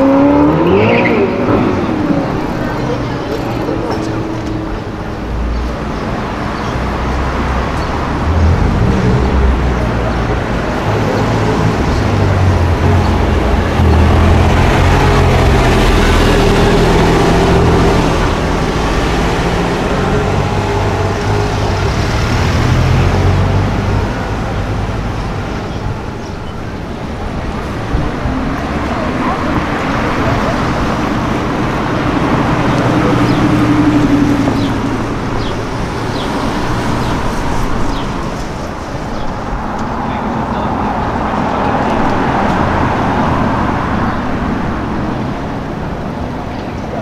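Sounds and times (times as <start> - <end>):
traffic noise: 0.0 - 47.0.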